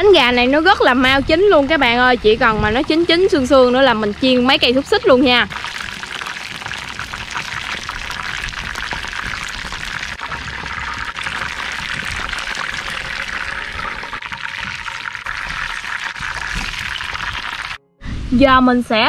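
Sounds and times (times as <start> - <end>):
chicken frying in hot oil: 0.9 - 17.8.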